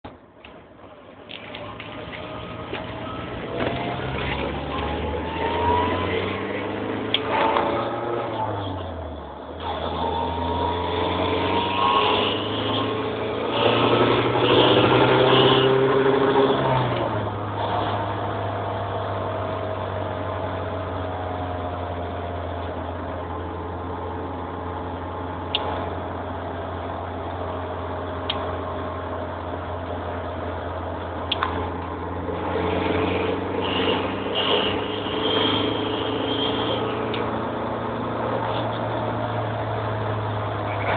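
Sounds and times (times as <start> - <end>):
car engine revving: 1.3 - 40.9.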